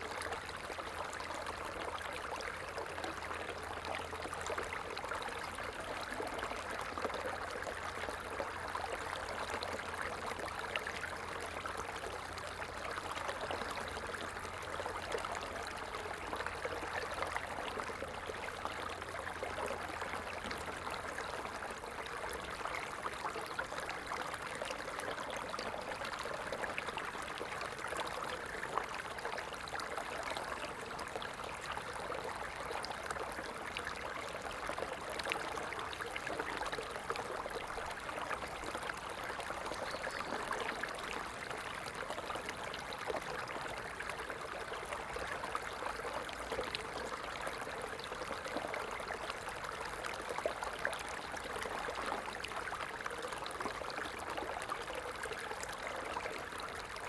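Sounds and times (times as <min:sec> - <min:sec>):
stream burbling: 0:00.0 - 0:57.0.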